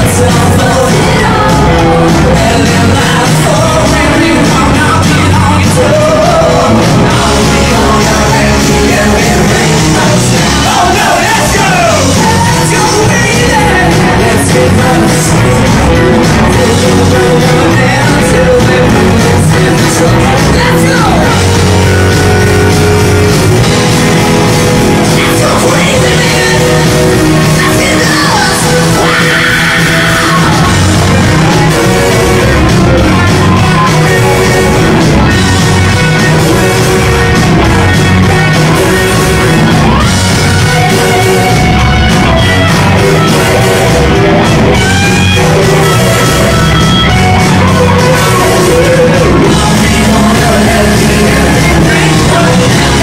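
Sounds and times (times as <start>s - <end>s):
drums: 0.0s - 53.0s
electric guitars: 0.0s - 53.0s
group of singers: 0.0s - 53.0s
keyboards: 0.0s - 53.0s.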